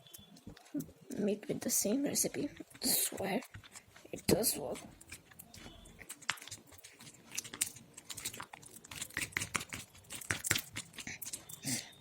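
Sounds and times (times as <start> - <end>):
slime stirred in a bowl: 0.0 - 12.0.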